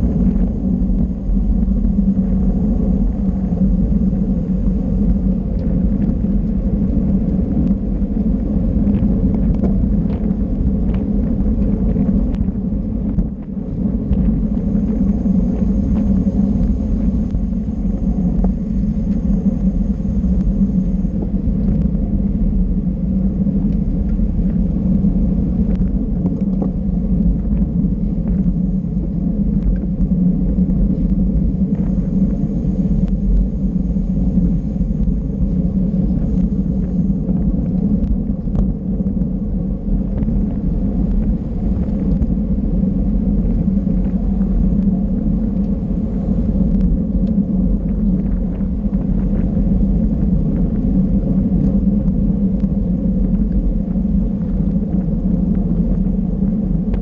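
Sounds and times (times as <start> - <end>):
road and tyre noise: 0.0 - 57.0
wind rumble on microphone: 0.0 - 57.0.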